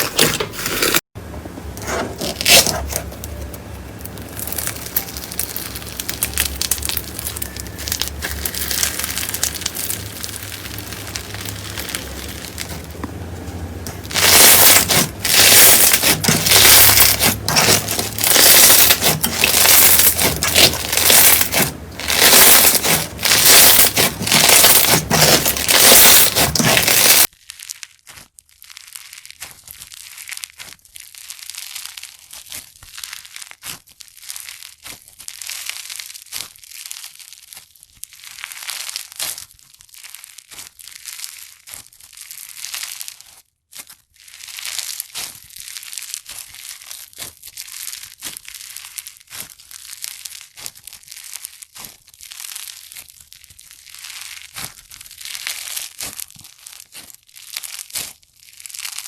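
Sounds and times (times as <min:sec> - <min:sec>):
slime crackling and crunching: 0:00.0 - 0:01.1, 0:01.8 - 0:59.0
fine slime crackle: 0:01.9 - 0:59.0.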